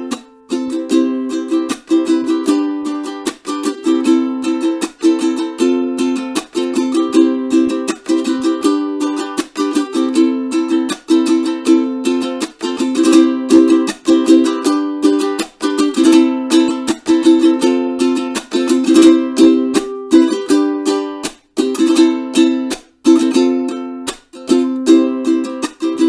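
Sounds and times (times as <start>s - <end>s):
ukulele strumming chords: 0.0s - 26.0s.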